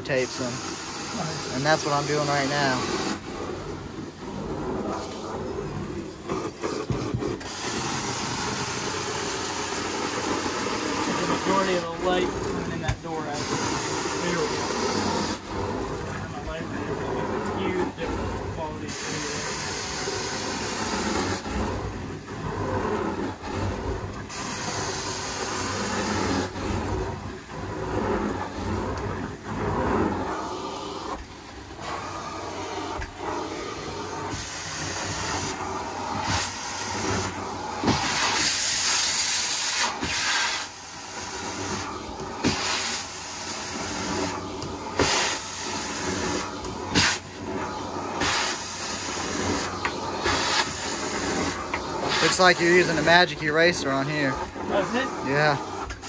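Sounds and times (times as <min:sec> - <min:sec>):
carpet cleaning wand hissing: 0:00.1 - 0:56.0.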